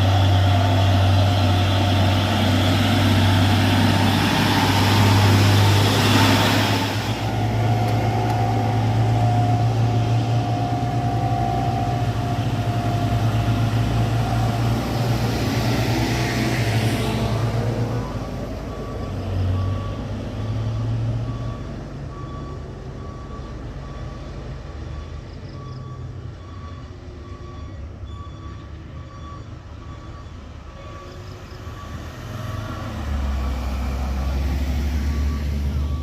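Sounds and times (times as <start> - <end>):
heavy diesel truck engine: 0.0 - 36.0
truck reversing alarm beeping: 0.0 - 36.0.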